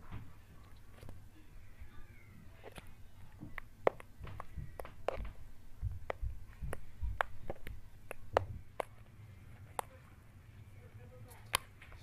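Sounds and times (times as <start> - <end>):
slime squelching: 0.5 - 10.2.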